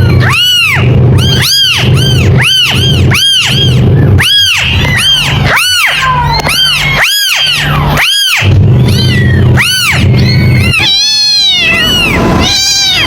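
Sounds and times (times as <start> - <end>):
kitten mewing: 0.0 - 13.0
steady low hum: 0.0 - 13.0.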